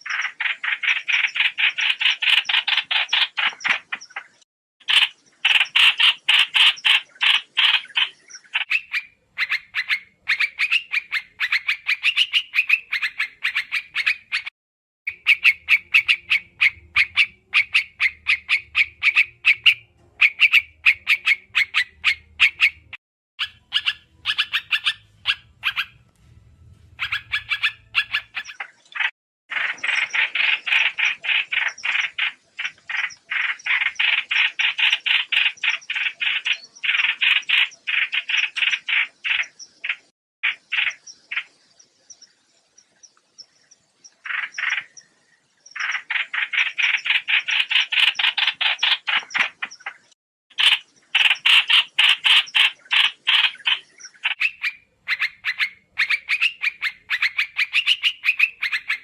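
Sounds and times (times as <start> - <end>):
birds chattering calls: 0.0 - 14.5, 15.1 - 59.0.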